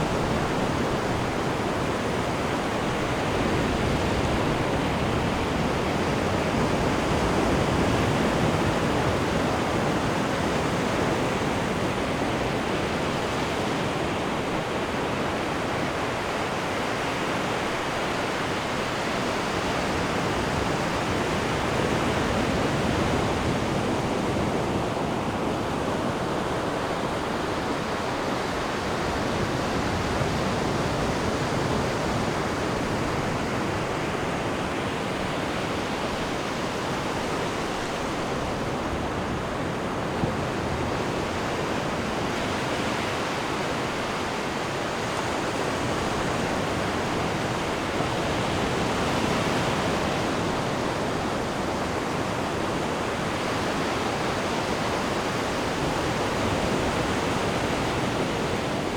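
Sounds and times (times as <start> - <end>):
ocean waves washing onto shore: 0.0 - 58.9.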